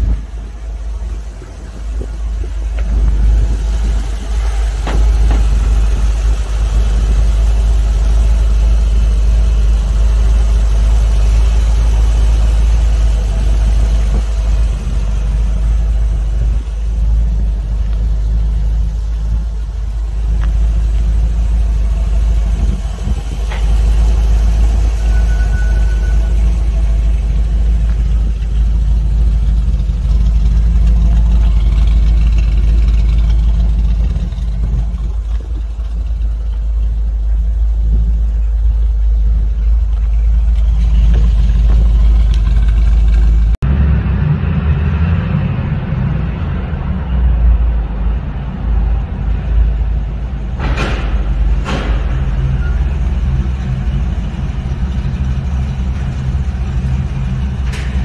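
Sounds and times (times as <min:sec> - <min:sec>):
truck engine idling: 0:00.0 - 0:43.7, 0:45.9 - 0:58.0.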